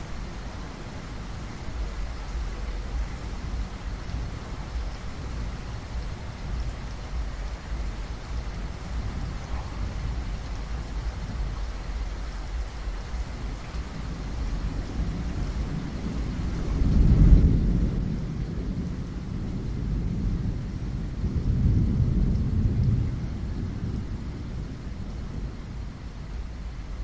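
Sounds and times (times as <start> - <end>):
steady rain: 0.0 - 27.0
thunder rumbling low: 0.0 - 27.0.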